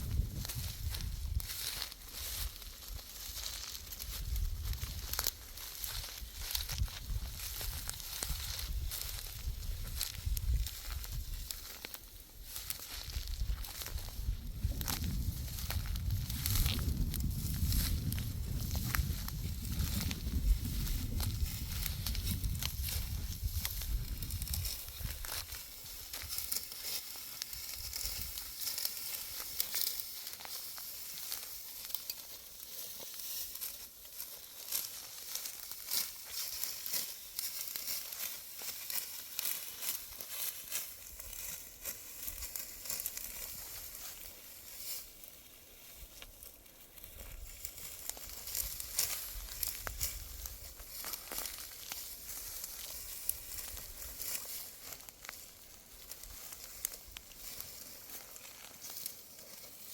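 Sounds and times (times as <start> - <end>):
wheat stalks snapping and rustling: 0.0 - 59.9.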